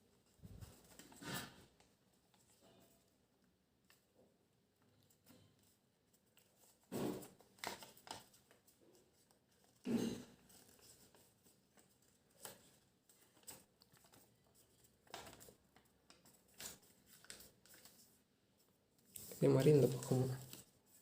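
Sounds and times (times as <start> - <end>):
paper rustling and creasing: 0.1 - 3.2, 5.0 - 21.0.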